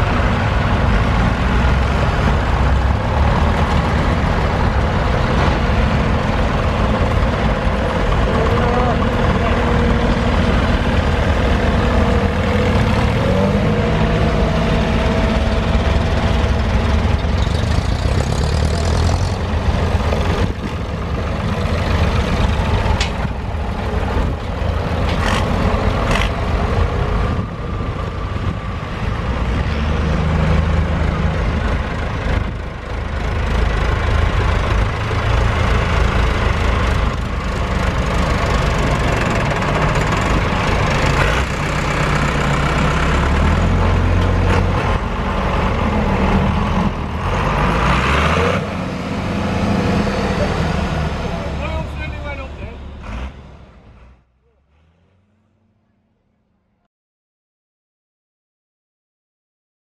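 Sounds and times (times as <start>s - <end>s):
tractor engines driving past: 0.0s - 56.7s.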